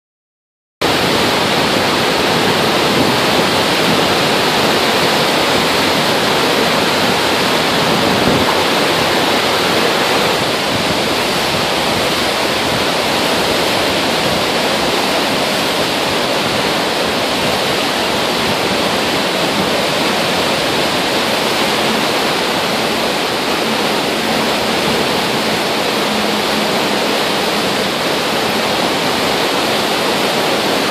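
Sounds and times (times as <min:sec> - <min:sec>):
floodwater rushing and churning: 0:00.8 - 0:30.9.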